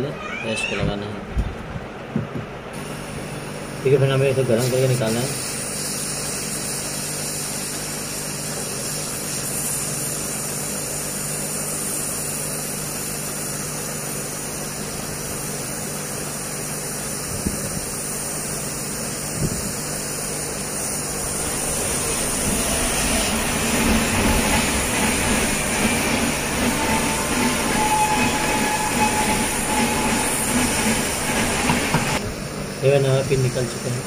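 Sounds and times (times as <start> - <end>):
hot air gun blowing: 4.6 - 32.3.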